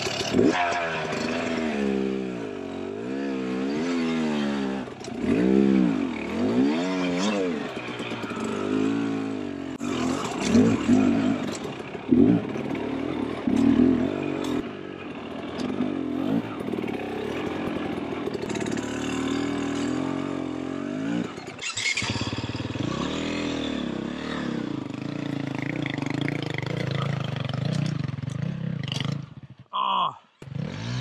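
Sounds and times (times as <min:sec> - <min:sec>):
dirt bike engine revving: 0:00.0 - 0:29.6, 0:30.4 - 0:31.0.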